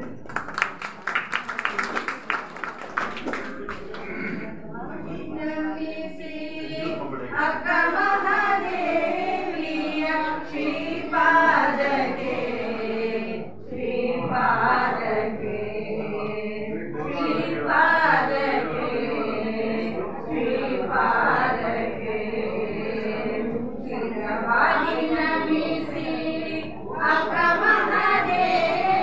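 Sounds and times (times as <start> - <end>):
women singing in unison: 5.1 - 29.0.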